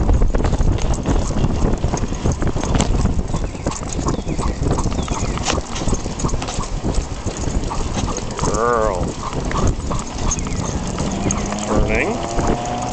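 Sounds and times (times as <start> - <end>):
dog claws tapping pavement: 0.0 - 12.9
wind and road noise rumble: 0.0 - 12.9.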